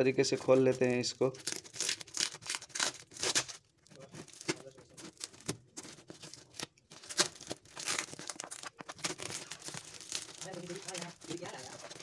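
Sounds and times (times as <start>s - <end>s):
tape and plastic ripping: 1.4s - 12.0s.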